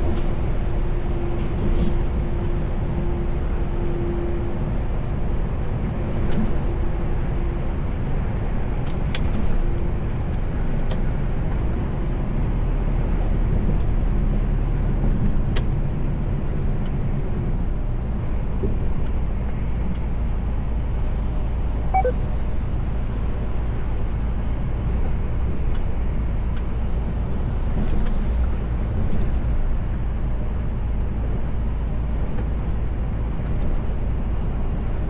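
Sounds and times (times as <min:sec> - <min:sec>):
diesel engine drone: 0:00.0 - 0:35.0
road noise: 0:00.0 - 0:35.0.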